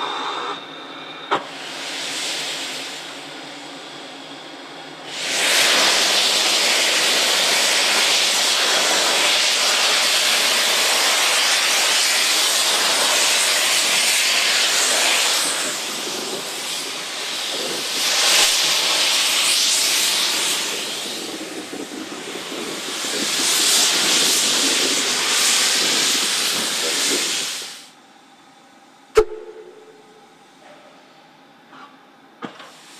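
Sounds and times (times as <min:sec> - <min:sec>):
steam locomotive blowing off steam: 0:00.0 - 0:28.0, 0:32.4 - 0:32.9.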